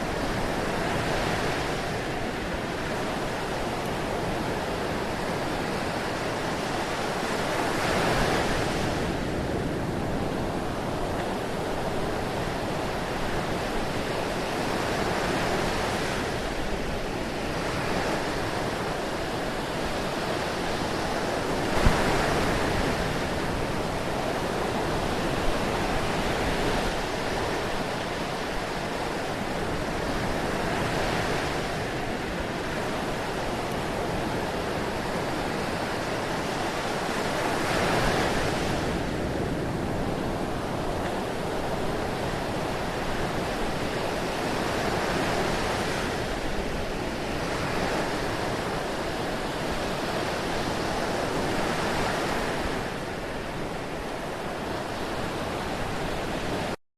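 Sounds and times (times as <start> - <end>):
ocean waves breaking: 0.0 - 56.8.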